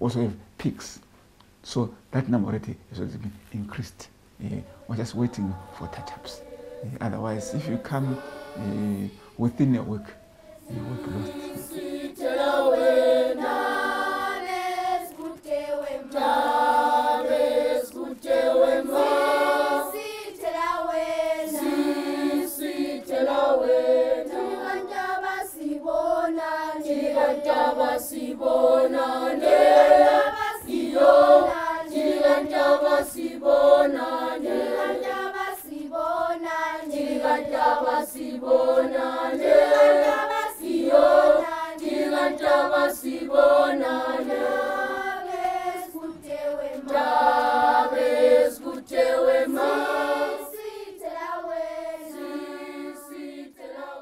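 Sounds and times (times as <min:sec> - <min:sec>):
children's choir singing: 0:04.4 - 0:54.0.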